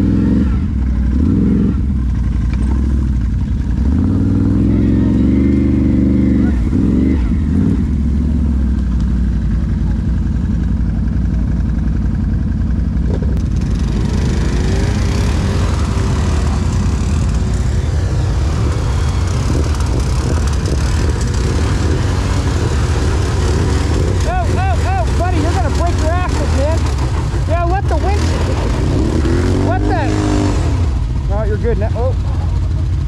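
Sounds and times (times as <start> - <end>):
atv engine droning: 0.0 - 33.0.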